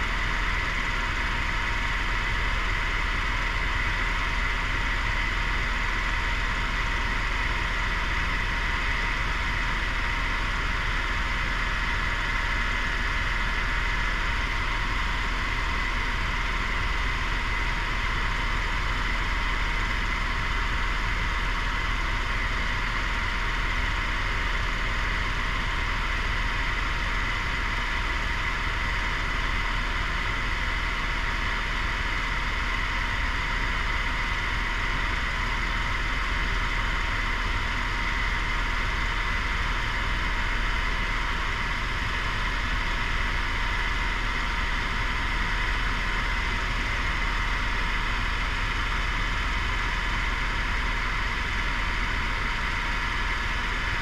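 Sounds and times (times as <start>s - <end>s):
constant high whine: 0.0s - 54.0s
helicopter drone from inside cabin: 0.0s - 54.0s.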